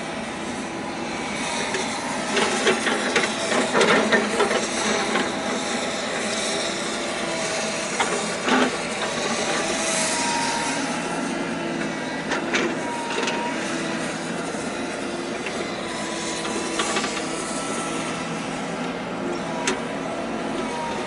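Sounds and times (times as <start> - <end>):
mechanical harbour noise: 0.0 - 21.0.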